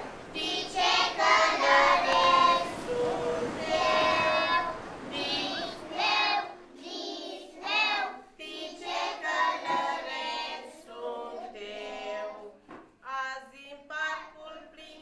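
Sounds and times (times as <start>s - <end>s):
children's choir singing: 0.0s - 12.6s.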